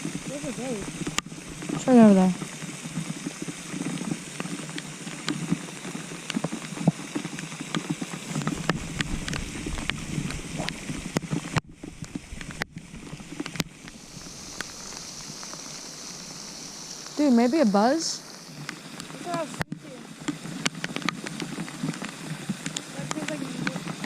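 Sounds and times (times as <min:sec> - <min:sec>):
heavy rain: 0:00.0 - 0:24.0
raindrops ticking near microphone: 0:00.0 - 0:24.0
steady hiss: 0:00.0 - 0:24.0.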